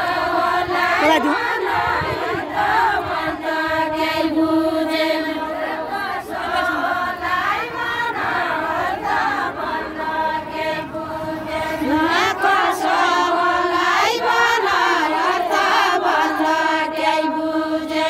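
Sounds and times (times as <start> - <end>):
women singing in unison: 0.0 - 18.0.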